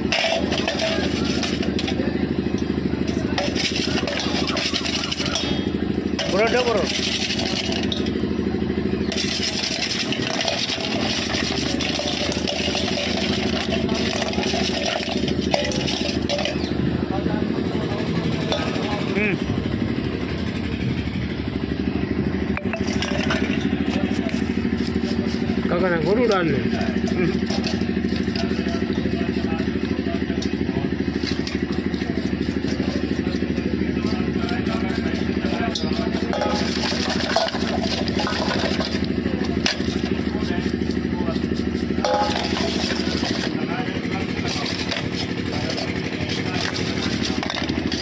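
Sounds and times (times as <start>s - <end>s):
small engine idling: 0.0s - 48.0s.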